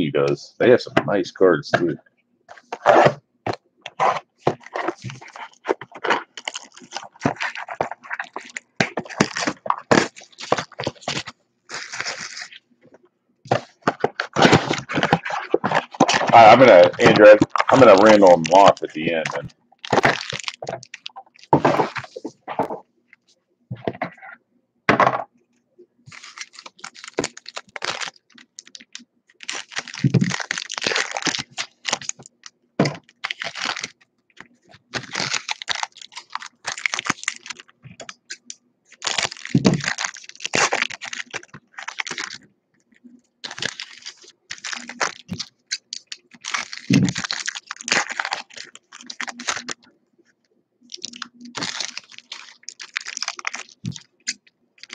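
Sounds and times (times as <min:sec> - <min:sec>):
foil wrappers crinkling and tearing: 0:03.9 - 0:12.6, 0:13.5 - 0:22.4, 0:26.1 - 0:42.4, 0:43.0 - 0:49.9, 0:50.8 - 0:54.9.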